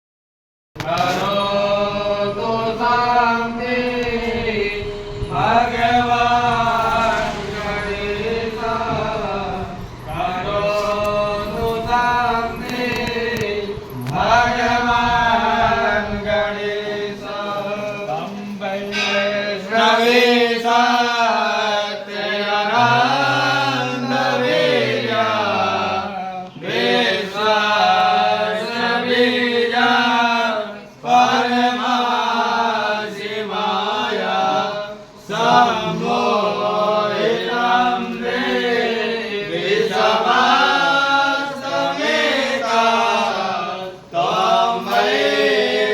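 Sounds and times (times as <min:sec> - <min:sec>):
person chanting a hymn: 0:00.8 - 0:45.9
steady drone: 0:00.8 - 0:45.9.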